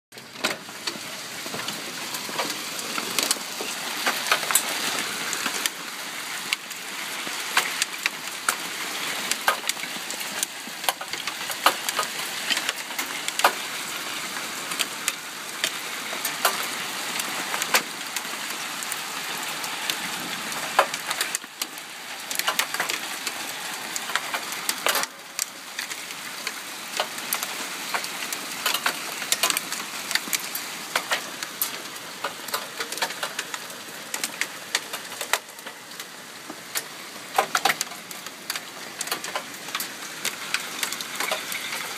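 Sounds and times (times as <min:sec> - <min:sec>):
hailstones clicking: 0:00.2 - 0:41.9
hail hissing: 0:00.9 - 0:41.9.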